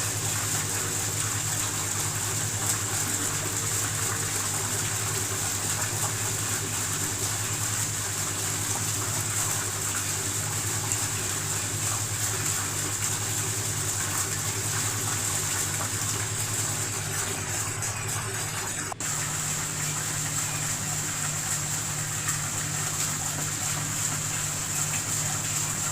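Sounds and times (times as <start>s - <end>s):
water pouring down waterfall: 0.0s - 25.9s.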